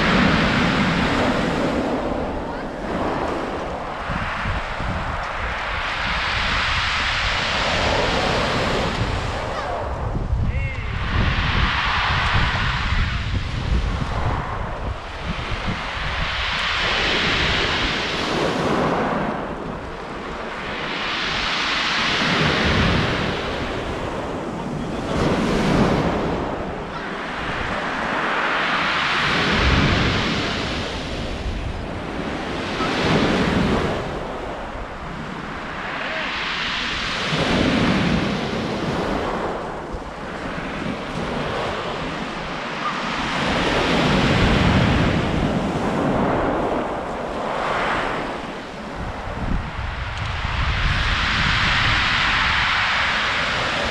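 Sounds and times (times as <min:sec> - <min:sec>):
sea waves breaking on shore: 0:00.0 - 0:53.9
wind buffeting microphone: 0:00.0 - 0:53.9.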